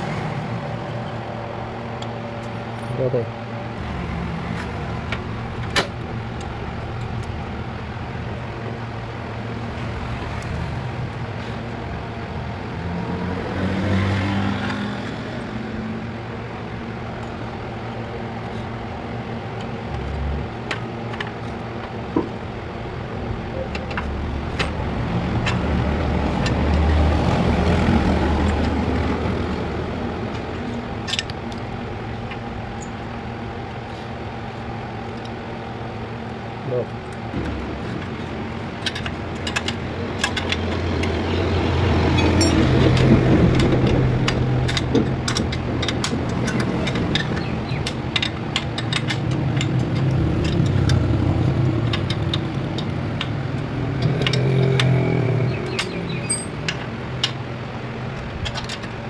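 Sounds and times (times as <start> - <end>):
vehicle engine through exhaust: 0.0 - 59.0.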